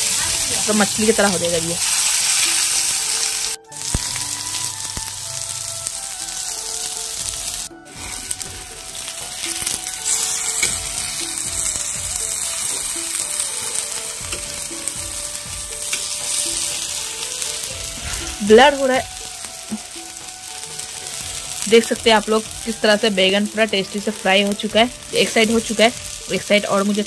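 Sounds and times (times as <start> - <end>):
slices sizzling in hot oil: 0.0 - 27.0.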